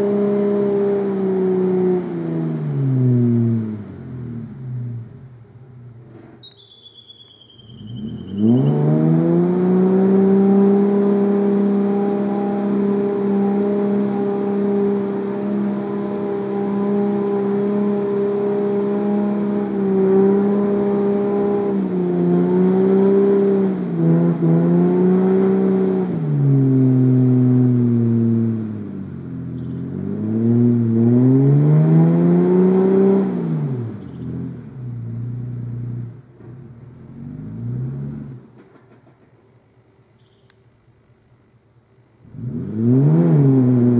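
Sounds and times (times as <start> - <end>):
engine revving under load: 0.0 - 5.4, 7.5 - 39.0, 42.2 - 43.9.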